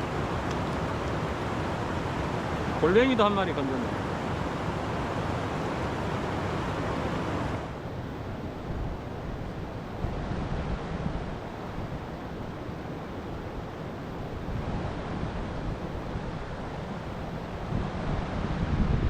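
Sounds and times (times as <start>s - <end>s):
wind buffeting microphone: 0.0s - 12.5s, 14.2s - 19.0s
stream water rushing: 0.0s - 18.6s.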